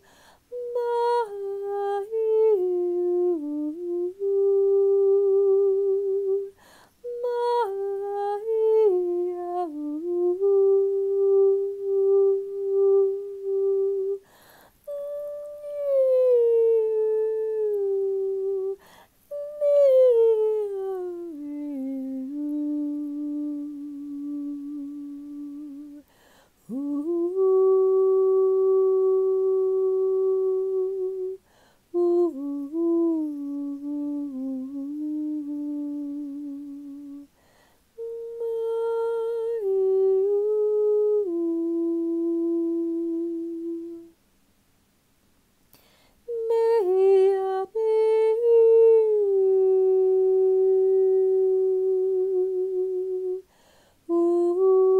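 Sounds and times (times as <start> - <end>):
woman singing wordless held notes: 0.0 - 44.3, 45.8 - 54.9.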